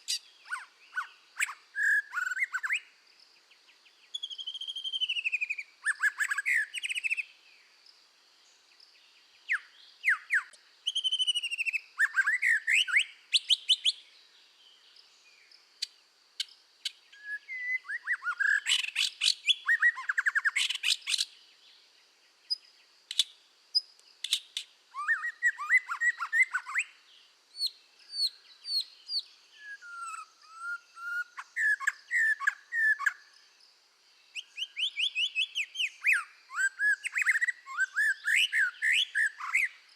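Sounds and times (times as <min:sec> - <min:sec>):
bird singing whistled notes and trills: 0:00.0 - 0:39.9.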